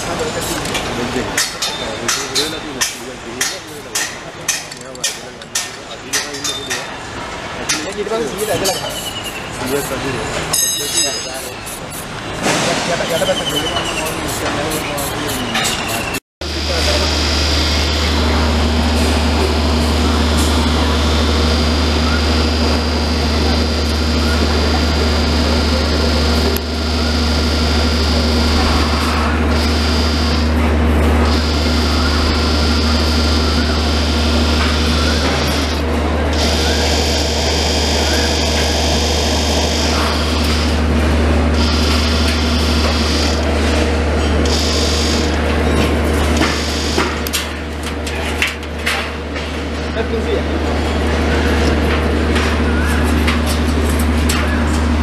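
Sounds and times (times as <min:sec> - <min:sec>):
hydraulic pump humming: 0:00.0 - 0:55.0.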